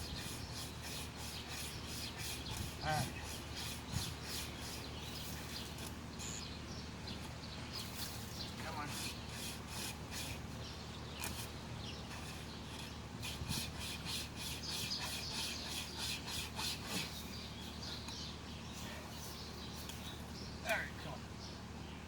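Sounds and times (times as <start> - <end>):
wire saw rasping through branch: 0.0 - 6.4, 7.7 - 20.3.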